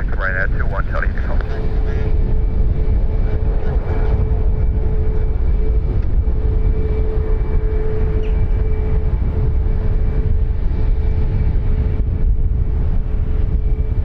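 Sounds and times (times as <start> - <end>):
aircraft engines running: 0.0 - 14.0.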